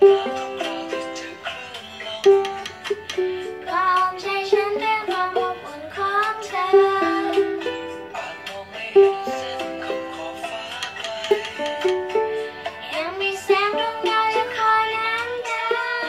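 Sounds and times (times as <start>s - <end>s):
child singing: 0.0s - 12.2s, 12.8s - 16.0s
ukulele strumming chords: 0.0s - 16.0s.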